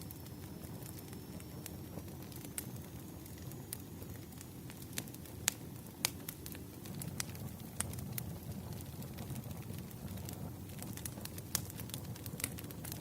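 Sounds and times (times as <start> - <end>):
firewood pops and crackles: 0.0 - 13.0
flames rumbling: 0.0 - 13.0.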